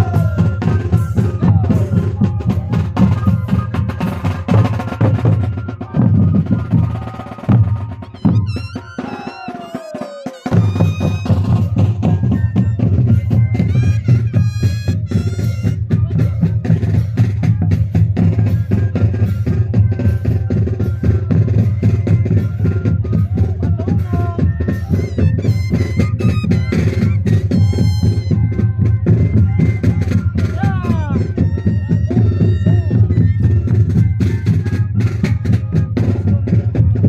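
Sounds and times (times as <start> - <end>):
cane flutes playing: 0.0 - 37.0
drums: 0.0 - 37.0.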